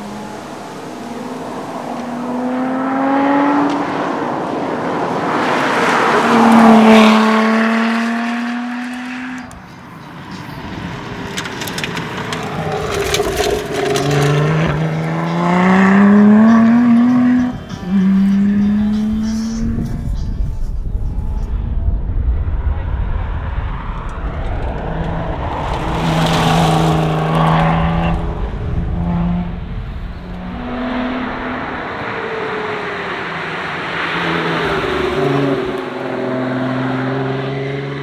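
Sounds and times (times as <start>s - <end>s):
car engine at full throttle passing: 0.0s - 9.6s, 11.0s - 38.0s.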